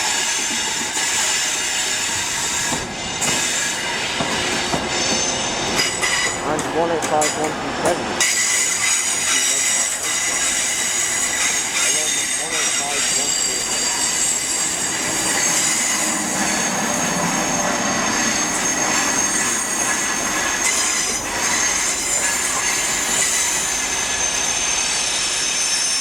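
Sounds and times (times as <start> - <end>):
train rolling rumble: 0.0 - 26.0
train wheels squealing on rails: 0.0 - 26.0.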